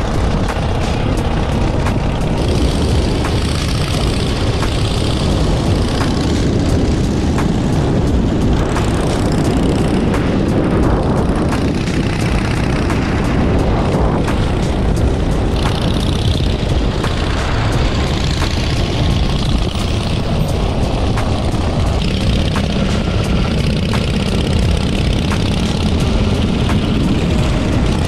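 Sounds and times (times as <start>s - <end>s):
low rumble: 0.0s - 28.0s
motorcycle engine running: 0.0s - 28.0s.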